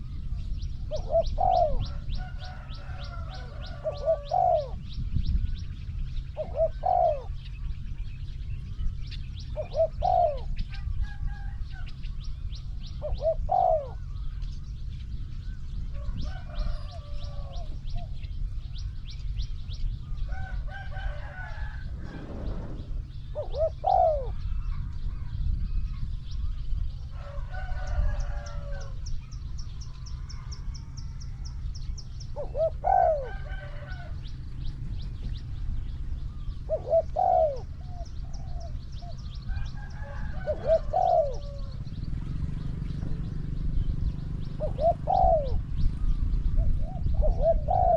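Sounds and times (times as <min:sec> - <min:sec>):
small birds chirping: 0:00.0 - 0:47.9
doves cooing: 0:00.8 - 0:05.0, 0:06.2 - 0:07.6, 0:09.0 - 0:15.0, 0:15.9 - 0:19.4, 0:20.0 - 0:25.0, 0:27.1 - 0:47.9.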